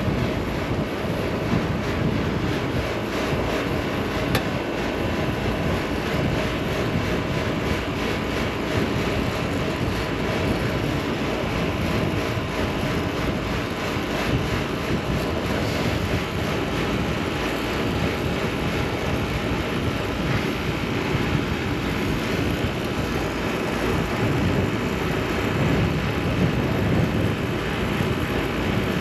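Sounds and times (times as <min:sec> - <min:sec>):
torch flame rushing: 0:00.0 - 0:29.0.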